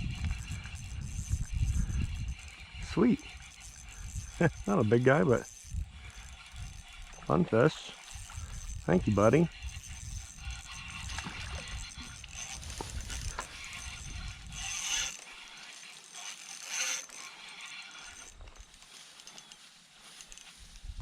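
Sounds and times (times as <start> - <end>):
fishing reel gears whirring: 0.0 - 21.0.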